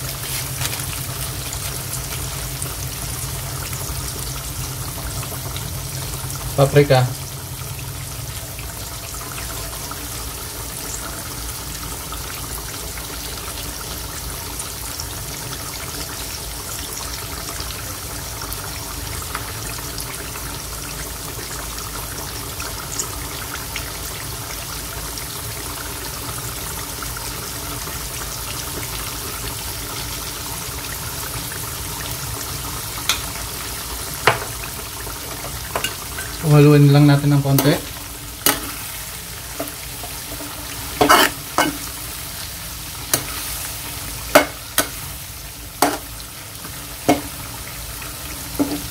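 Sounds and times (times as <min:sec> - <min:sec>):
oil sizzling in a wok: 0:00.0 - 0:48.9.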